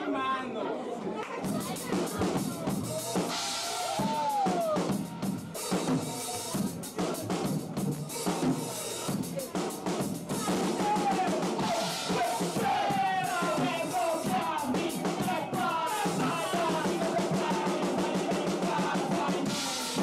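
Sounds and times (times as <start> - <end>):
rock drum kit playing: 1.4 - 20.0.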